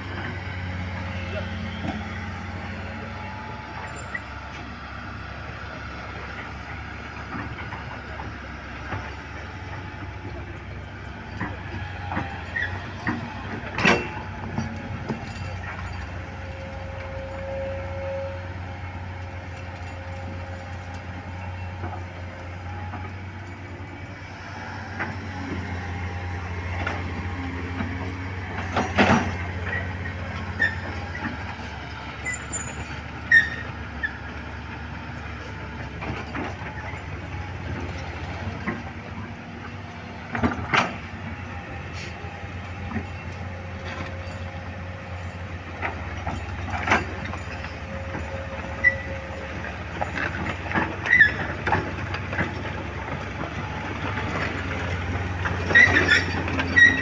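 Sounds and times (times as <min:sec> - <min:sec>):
diesel machinery droning: 0:00.0 - 0:57.0.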